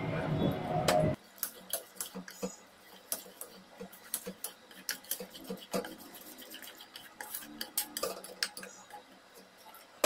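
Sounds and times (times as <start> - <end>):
metal spoon scraping batter: 1.2 - 10.0.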